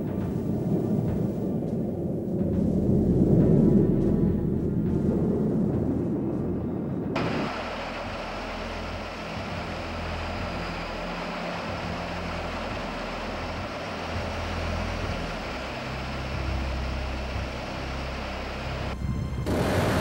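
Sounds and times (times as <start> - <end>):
jet engines roaring: 0.0 - 20.0
low hum shifting in pitch: 0.0 - 20.0.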